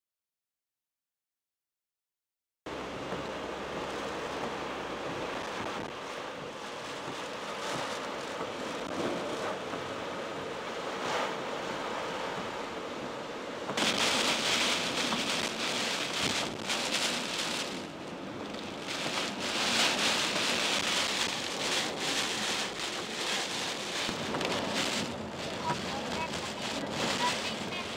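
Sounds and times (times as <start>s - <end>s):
heavy rain lashing a car: 2.7s - 27.9s
strong wind on moving car: 2.7s - 27.9s.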